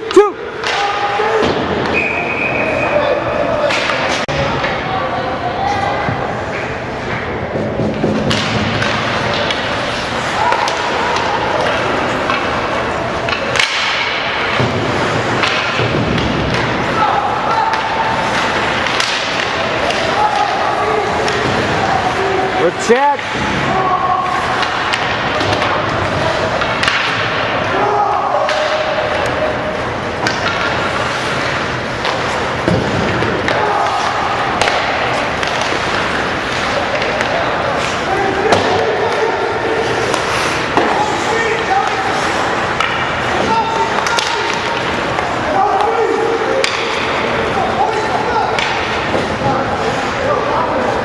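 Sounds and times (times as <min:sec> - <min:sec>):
rink and crowd noise: 0:00.0 - 0:51.0
skate and arena noise: 0:00.0 - 0:51.0
sticks and puck hitting boards: 0:00.1 - 0:02.0, 0:03.6 - 0:04.8, 0:06.1 - 0:50.2.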